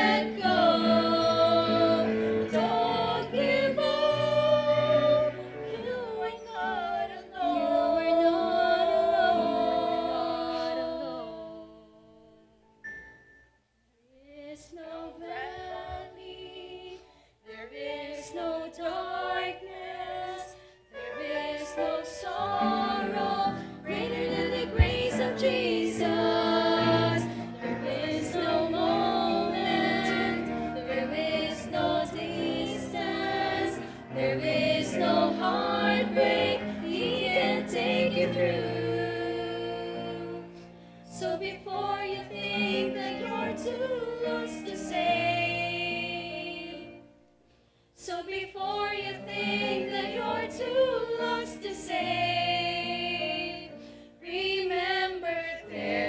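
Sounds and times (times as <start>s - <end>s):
women singing a hymn in harmony: 0.0s - 12.6s, 14.2s - 47.2s, 48.0s - 56.0s.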